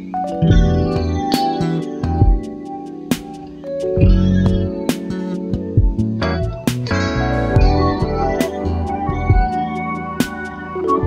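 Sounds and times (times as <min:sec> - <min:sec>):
plucked notes: 0:00.1 - 0:11.0
bass line: 0:00.4 - 0:02.4, 0:04.0 - 0:11.0.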